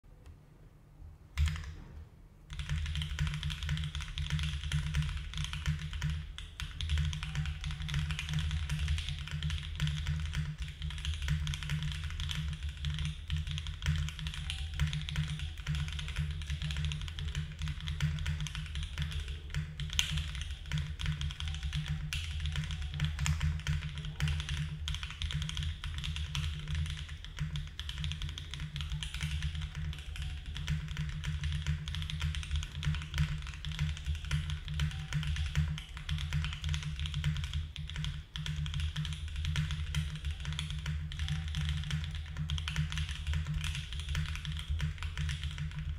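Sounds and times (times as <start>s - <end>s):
fast mechanical keyboard typing: 1.4s - 1.8s, 2.5s - 45.9s.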